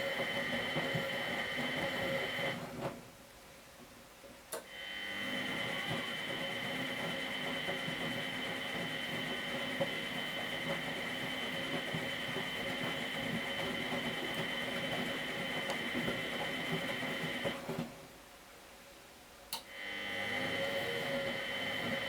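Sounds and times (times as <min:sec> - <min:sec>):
washing machine motor whine: 0:00.0 - 0:02.8, 0:04.7 - 0:18.0, 0:19.7 - 0:22.0.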